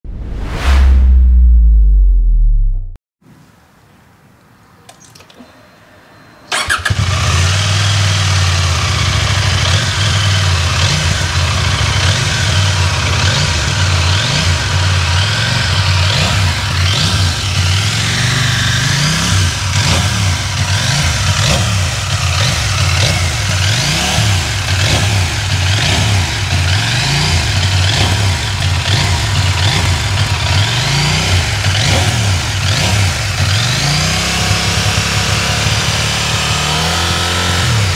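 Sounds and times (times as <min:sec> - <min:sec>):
motorcycle engine starting: 0:06.5 - 0:37.9
motorcycle engine idling loudly: 0:06.6 - 0:37.9.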